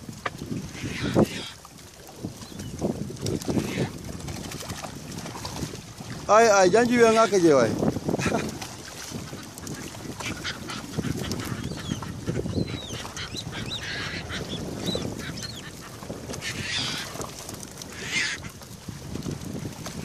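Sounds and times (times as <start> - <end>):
net and fish slapping hull: 0.0 - 20.0
water splashing and sloshing: 0.0 - 20.0.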